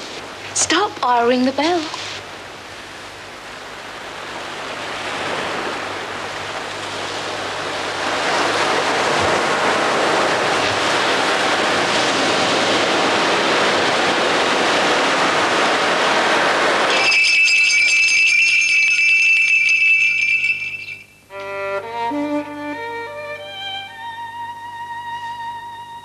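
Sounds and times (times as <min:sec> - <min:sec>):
sea surf rushing: 0:00.0 - 0:26.0.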